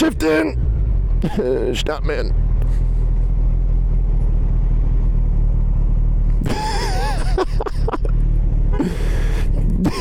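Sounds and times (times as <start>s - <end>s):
motorcycle engine drone: 0.0s - 10.0s.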